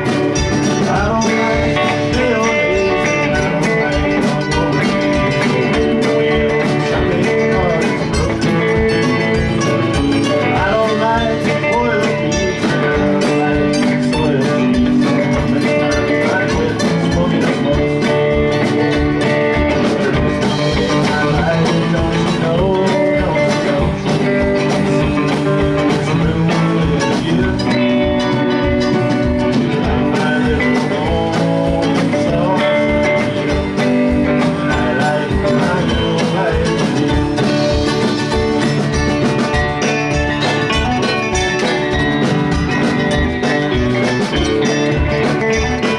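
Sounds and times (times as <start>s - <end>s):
live rock band playing: 0.0s - 45.9s
steady drum beat: 0.0s - 45.9s.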